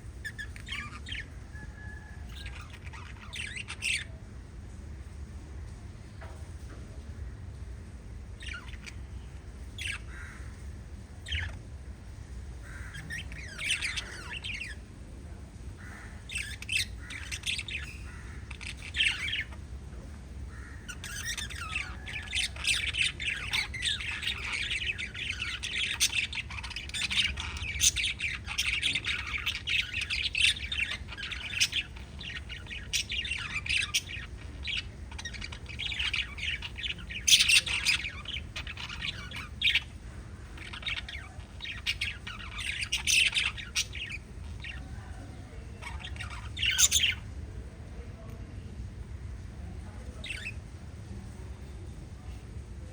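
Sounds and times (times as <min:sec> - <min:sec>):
lovebirds chirping and squawking: 0:00.0 - 0:04.3, 0:08.1 - 0:15.0, 0:15.7 - 0:19.8, 0:20.4 - 0:47.4, 0:50.1 - 0:50.7.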